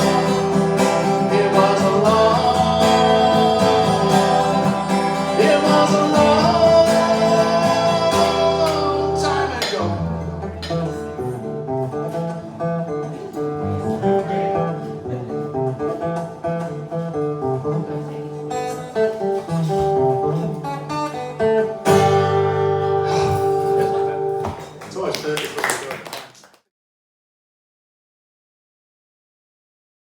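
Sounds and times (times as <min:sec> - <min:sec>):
acoustic guitar playing: 0:00.0 - 0:24.8.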